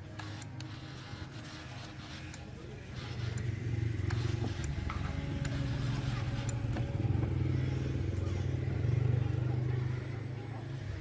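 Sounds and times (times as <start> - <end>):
motor humming: 0.0 - 10.4.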